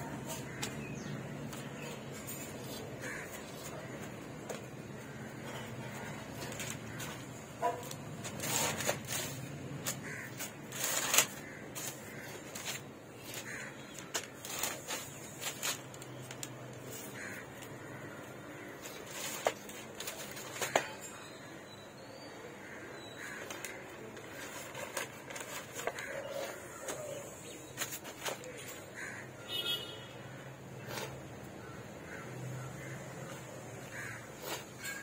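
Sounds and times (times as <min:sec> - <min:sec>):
newspaper rustling and crinkling: 0:00.0 - 0:21.2, 0:23.2 - 0:29.2, 0:33.8 - 0:35.0
birds calling: 0:00.0 - 0:35.0.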